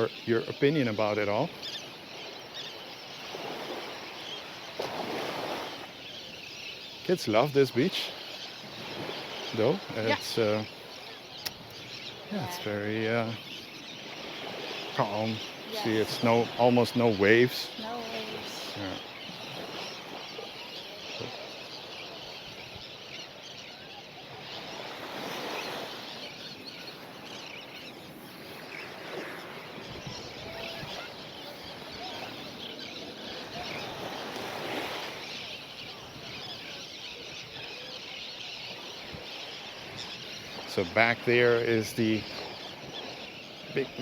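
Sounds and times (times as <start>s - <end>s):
water gently lapping: 0.0s - 44.0s.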